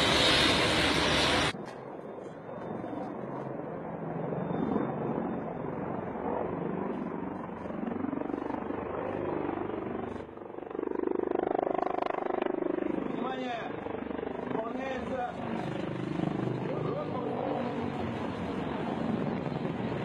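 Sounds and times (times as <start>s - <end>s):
helicopters flying past: 0.0s - 20.0s.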